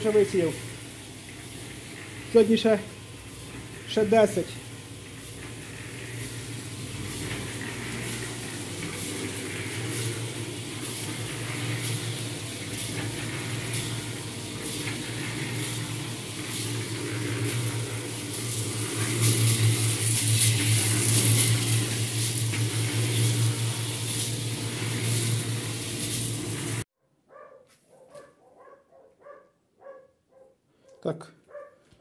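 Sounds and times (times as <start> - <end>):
machine humming and hissing: 0.0 - 26.8.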